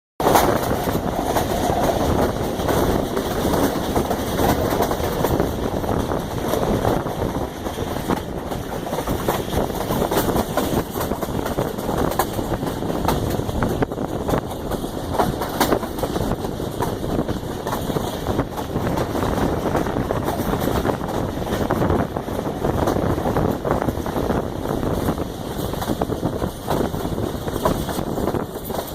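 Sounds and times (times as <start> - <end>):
train rumbling and rattling: 0.2 - 28.9
wheels clicking on rails: 0.2 - 28.9.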